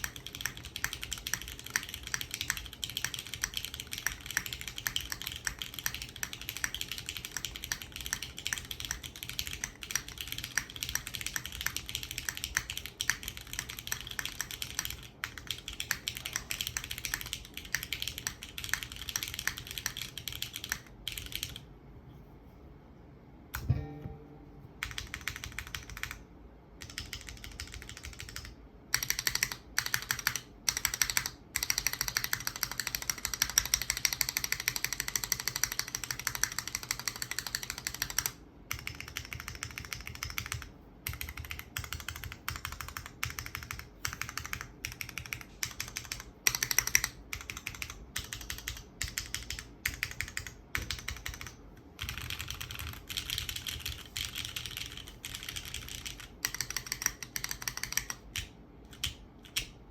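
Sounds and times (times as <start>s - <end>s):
typing on mechanical keyboard: 0.0s - 21.7s, 24.8s - 26.2s, 26.8s - 59.8s.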